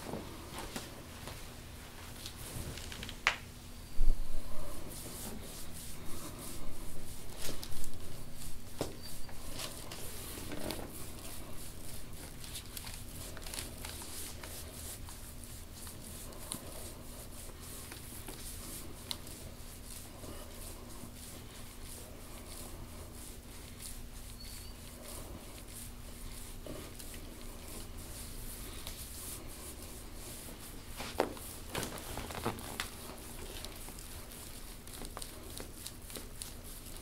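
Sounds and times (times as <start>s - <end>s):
low room hum: 0.0s - 37.0s
massage rubbing oiled skin: 4.1s - 37.0s.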